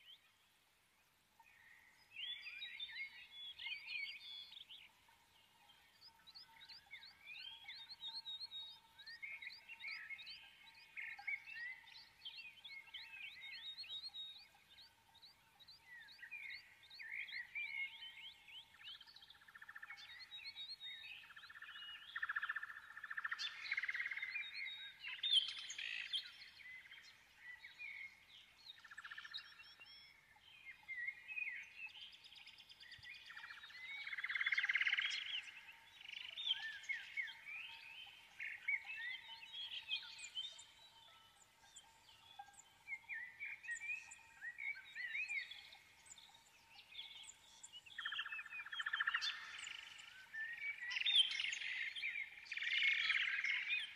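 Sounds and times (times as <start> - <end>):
small birds chirping and whistling: 1.4 - 53.9.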